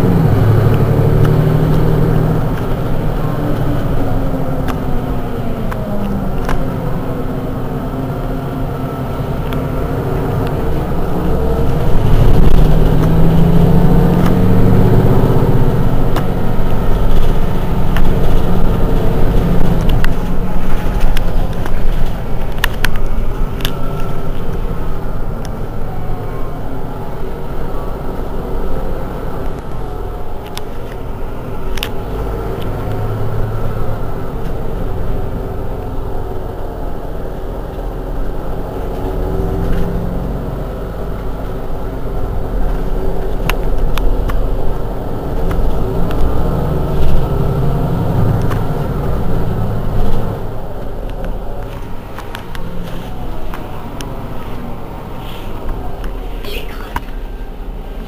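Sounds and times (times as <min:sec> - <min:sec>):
bus diesel engine idling: 0:02.1 - 0:12.1, 0:15.6 - 0:46.8, 0:48.8 - 0:58.0.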